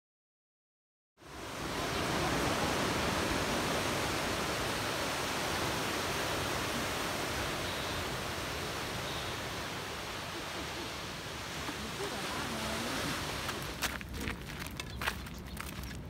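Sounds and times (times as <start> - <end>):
ocean surf breaking: 1.2 - 14.8.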